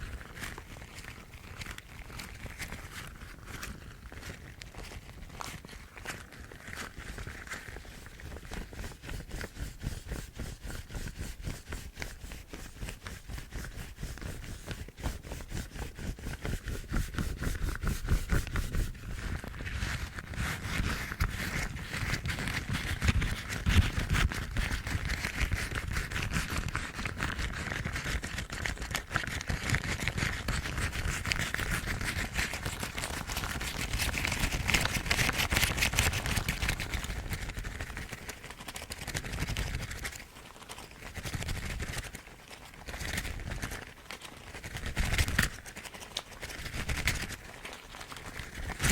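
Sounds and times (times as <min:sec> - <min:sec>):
rubber gloves rubbing and rustling: 0:00.0 - 0:48.9.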